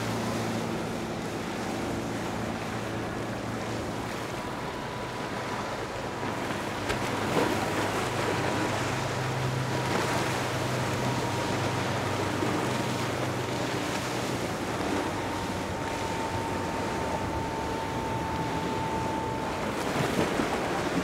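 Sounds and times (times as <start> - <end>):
boat engine drone: 0.0 - 21.0
rushing water: 0.0 - 21.0.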